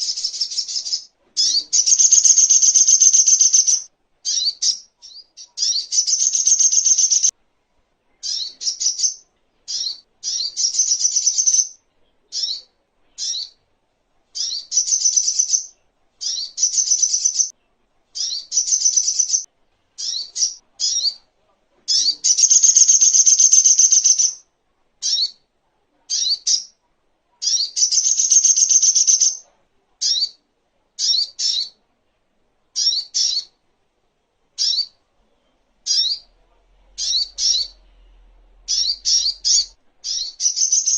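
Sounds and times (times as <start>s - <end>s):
bird chirping: 0.0s - 7.4s, 8.1s - 13.7s, 14.3s - 21.3s, 21.9s - 25.4s, 26.1s - 26.8s, 27.4s - 30.4s, 31.0s - 31.8s, 32.7s - 33.6s, 34.6s - 40.9s.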